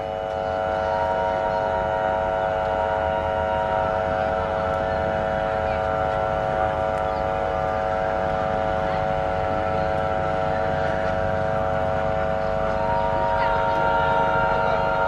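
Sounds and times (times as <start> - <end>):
locomotive air horn chord: 0.0 - 15.0
train rumbling: 0.0 - 15.0.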